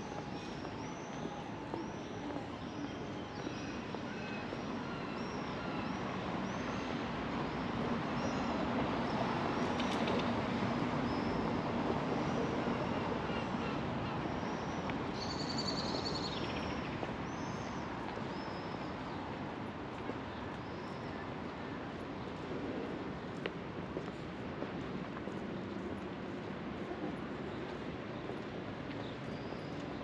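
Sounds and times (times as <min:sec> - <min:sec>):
city traffic: 0:00.0 - 0:30.0.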